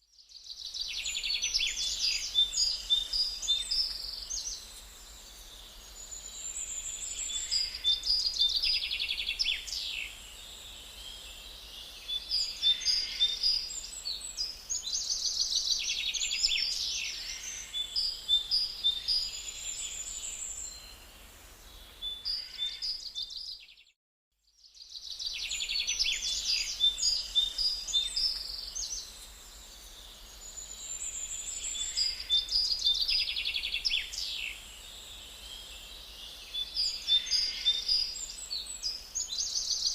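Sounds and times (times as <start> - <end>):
songbirds singing: 0.0 - 39.9
faint steady hiss: 0.2 - 22.9, 24.7 - 39.9.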